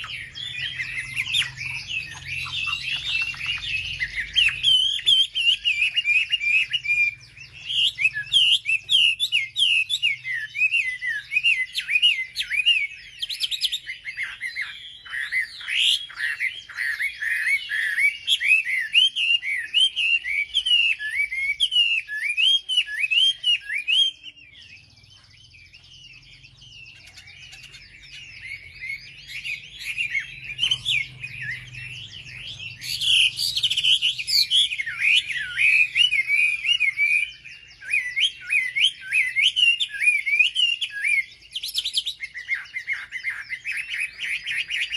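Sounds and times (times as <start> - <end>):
bird chattering song: 0.0 - 44.9.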